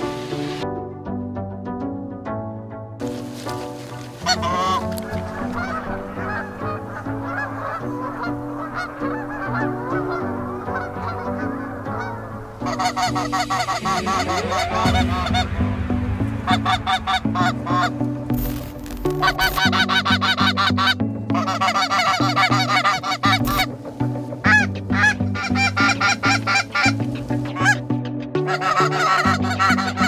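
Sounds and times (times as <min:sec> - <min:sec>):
geese honking: 0:03.1 - 0:30.0.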